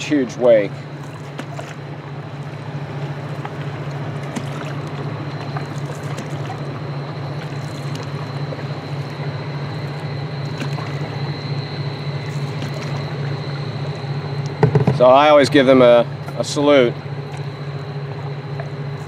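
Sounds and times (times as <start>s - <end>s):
boat diesel engines droning: 0.0s - 19.0s
water trickling and splashing: 0.0s - 19.0s.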